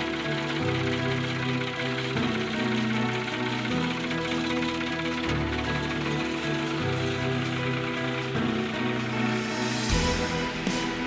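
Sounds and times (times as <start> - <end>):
instrumental music with sustained chords: 0.0 - 11.0.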